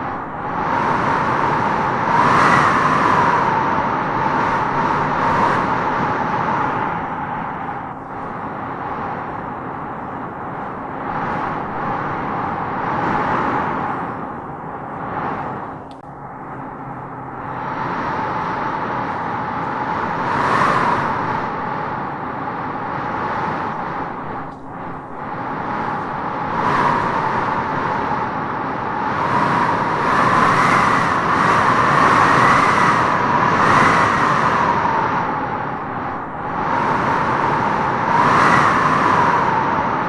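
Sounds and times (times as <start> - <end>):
wind howling in gusts: 0.0 - 40.0.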